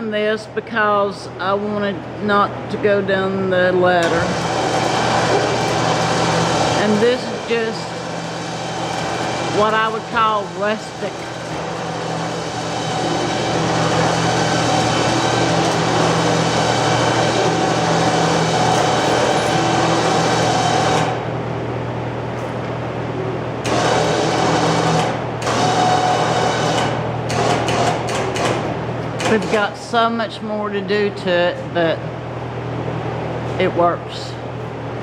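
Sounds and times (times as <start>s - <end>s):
elevator electric drive humming: 0.0s - 35.0s.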